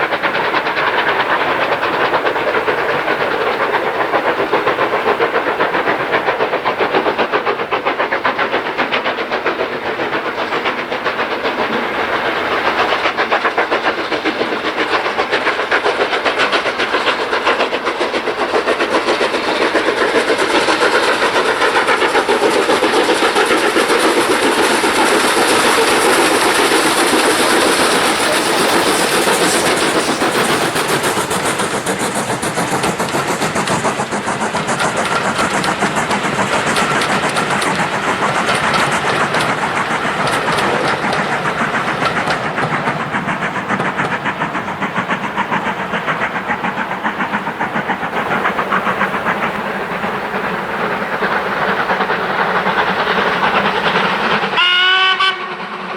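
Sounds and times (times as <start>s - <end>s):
steam hiss: 0.0s - 55.9s
steam locomotive beats: 0.0s - 55.9s
train clattering on rails: 0.0s - 55.9s.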